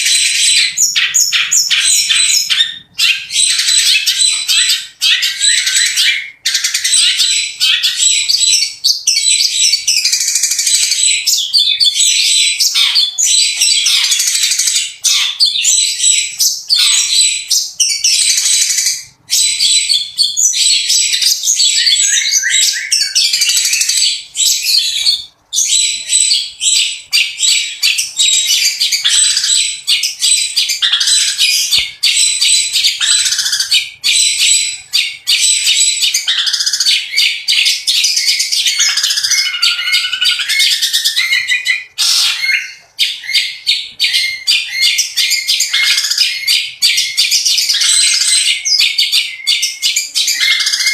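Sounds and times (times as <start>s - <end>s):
bird singing harsh chattering song: 0.0s - 50.9s.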